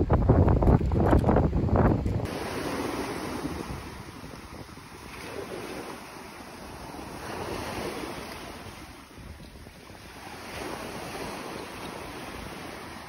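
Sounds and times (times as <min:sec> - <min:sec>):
wind rumbling on microphone: 0:00.0 - 0:13.0
small waves breaking on beach: 0:02.2 - 0:13.0.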